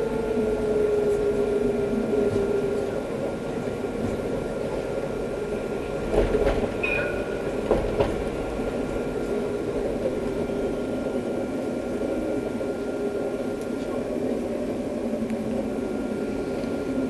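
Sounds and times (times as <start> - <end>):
tram interior rumble: 0.0 - 17.0.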